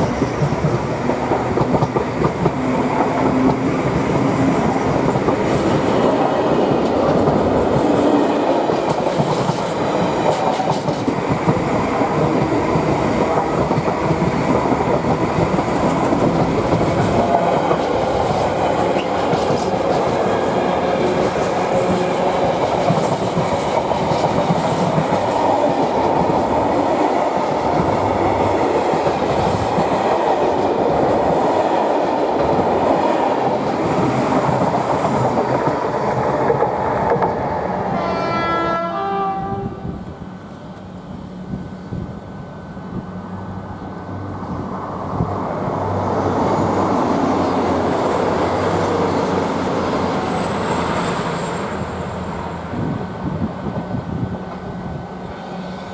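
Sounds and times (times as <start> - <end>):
freight train wagons rumbling past: 0.0 - 55.9.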